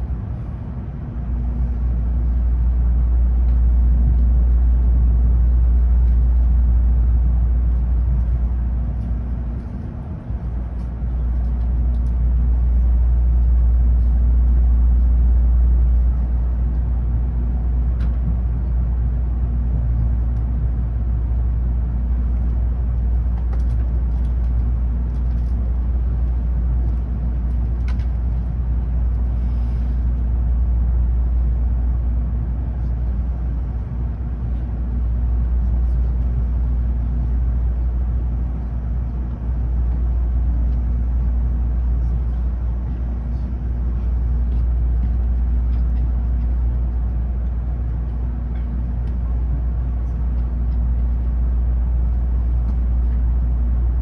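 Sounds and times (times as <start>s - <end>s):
train low rumble inside car: 0.0s - 54.0s.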